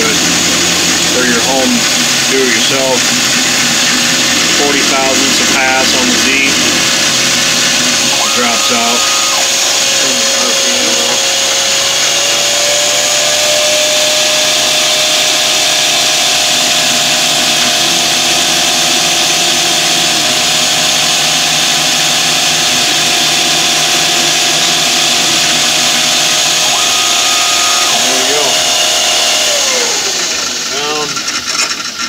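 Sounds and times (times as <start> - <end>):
mill cutting metal: 0.0 - 32.0
spindle whine: 0.0 - 32.0.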